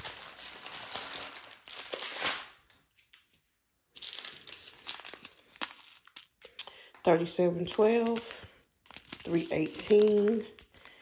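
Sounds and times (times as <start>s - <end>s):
plastic bags crinkling: 0.0s - 2.7s, 3.9s - 11.0s.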